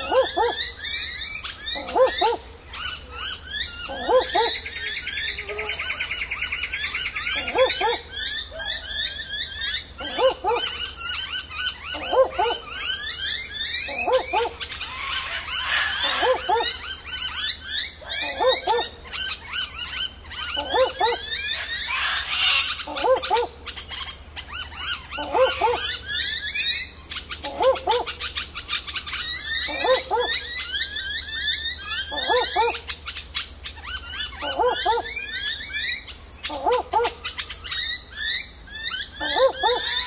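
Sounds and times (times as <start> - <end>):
birds chirping: 0.0 - 40.0
owl barking call: 0.0 - 40.0.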